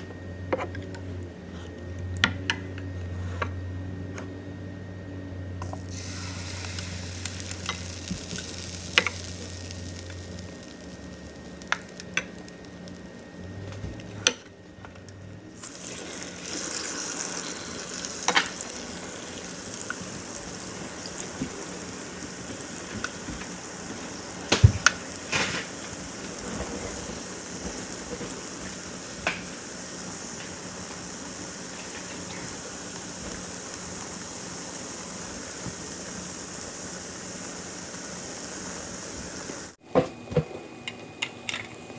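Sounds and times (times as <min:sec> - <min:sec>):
batter sizzling on hot plates: 0:05.6 - 0:41.9.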